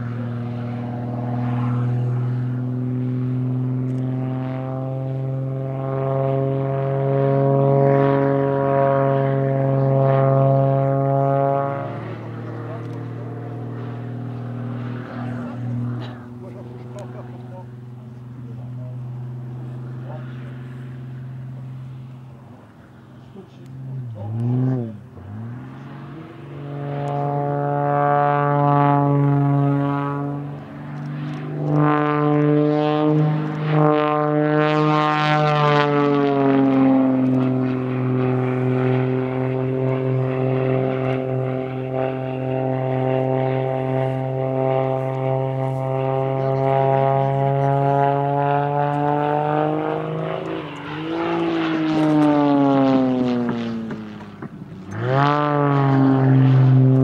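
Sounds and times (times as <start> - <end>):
propeller airplane engine drone: 0.0 - 57.0.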